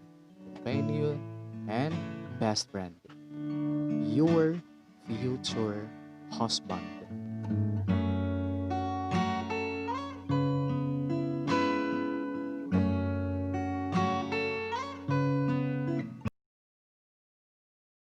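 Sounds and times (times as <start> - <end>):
acoustic guitar music: 0.0 - 16.3.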